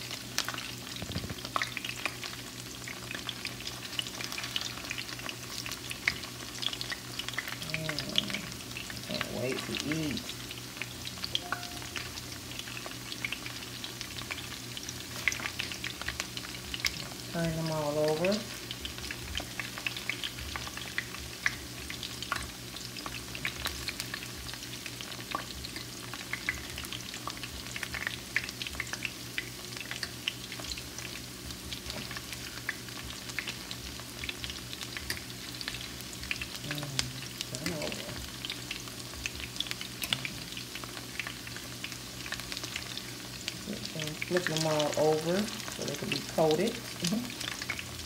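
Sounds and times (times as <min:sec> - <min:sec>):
batter frying in oil: 0:00.0 - 0:48.0.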